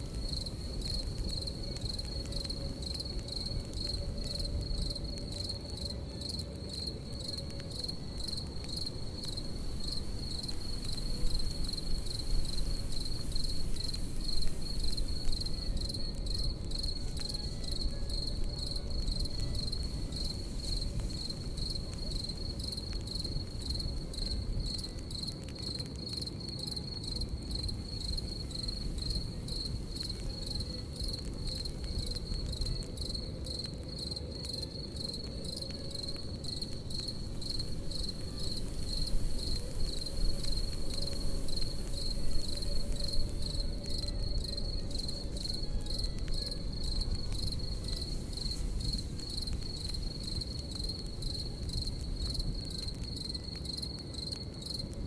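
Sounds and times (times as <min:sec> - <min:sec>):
burning wood crackling: 0:00.0 - 0:55.0
campfire rushing: 0:00.0 - 0:55.0
crickets chirping: 0:00.0 - 0:55.0.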